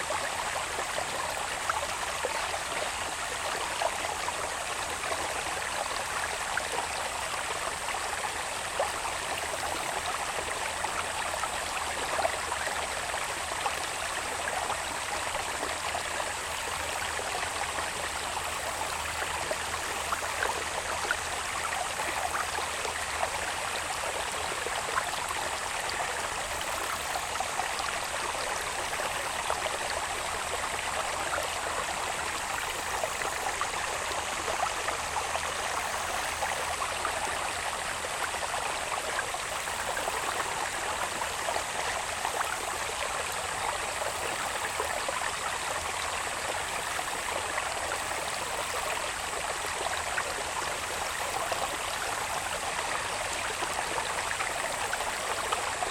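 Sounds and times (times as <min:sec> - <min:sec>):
water babbling in a channel: 0:00.0 - 0:55.9.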